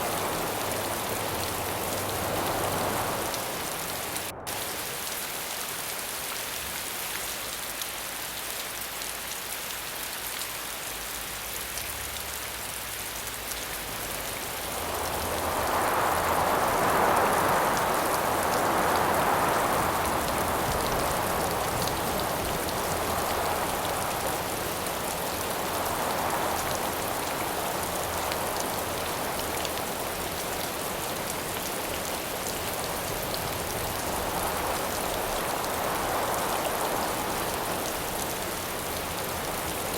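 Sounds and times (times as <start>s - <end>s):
wind gusts: 0.0s - 7.4s, 12.7s - 39.9s
rain hiss: 0.0s - 39.9s.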